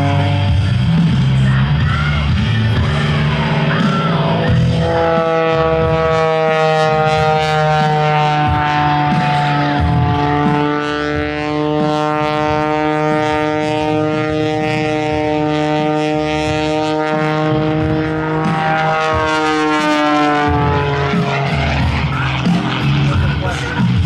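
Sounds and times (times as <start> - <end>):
propeller plane droning overhead: 0.0 - 24.0.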